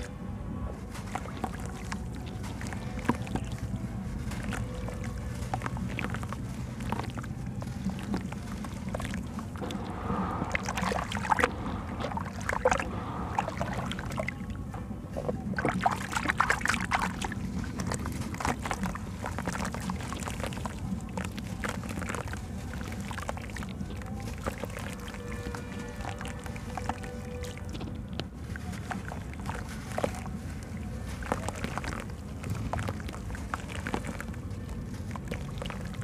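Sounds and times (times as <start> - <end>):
steady low rumble: 0.0 - 36.0
hands sloshing wet dirt: 0.7 - 36.0
dirt crumbling into water: 0.8 - 36.0.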